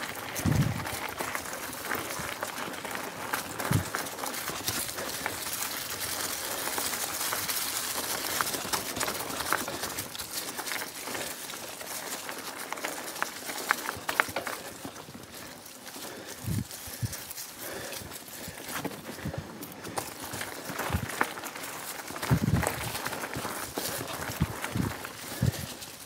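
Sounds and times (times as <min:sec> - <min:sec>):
bike clicks and rattles: 0:00.0 - 0:26.0
bike tyres on dirt trail: 0:00.0 - 0:26.0.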